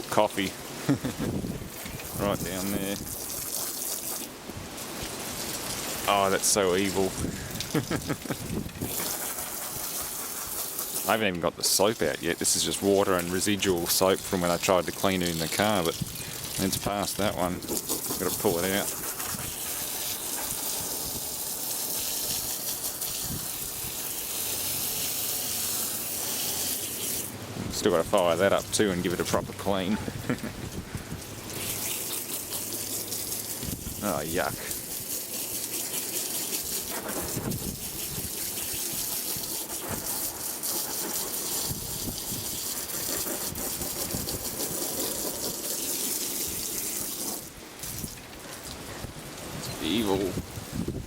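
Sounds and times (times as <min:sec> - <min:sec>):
hose spraying water: 0:00.0 - 0:51.0.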